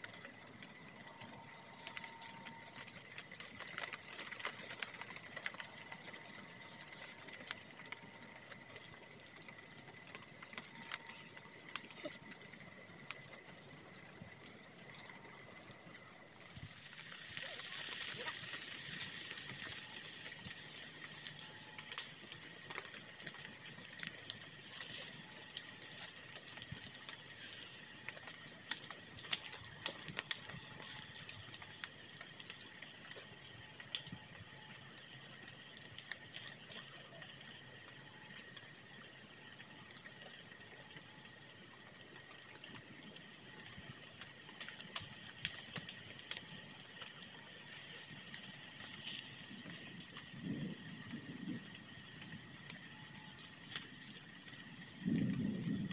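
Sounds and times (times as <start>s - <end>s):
steady high-pitched hiss: 0.0s - 55.9s.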